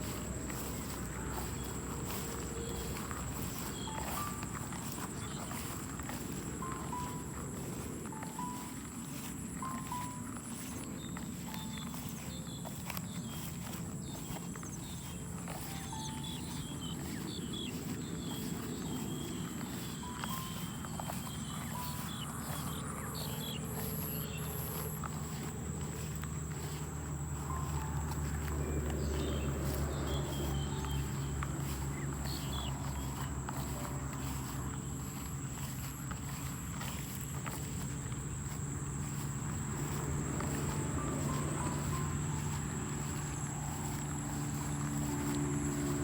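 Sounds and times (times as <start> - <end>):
birds chirping: 0.0 - 46.0
footsteps in a rice field: 0.0 - 46.0
insects buzzing: 0.0 - 46.0.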